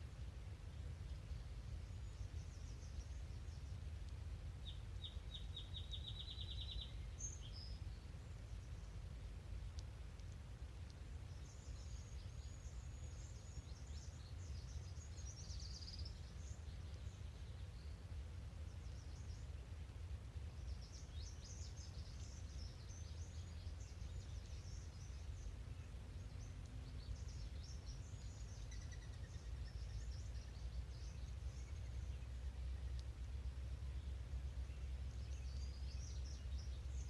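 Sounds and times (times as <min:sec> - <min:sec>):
songbirds singing: 0:00.0 - 0:37.0
steady low rumble: 0:00.0 - 0:37.0.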